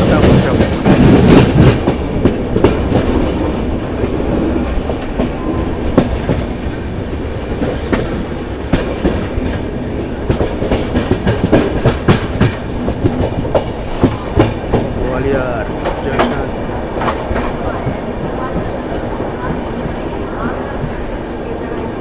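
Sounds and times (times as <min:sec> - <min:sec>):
train rumbling at speed: 0:00.0 - 0:22.0
wheels clacking over rail joints: 0:00.0 - 0:22.0.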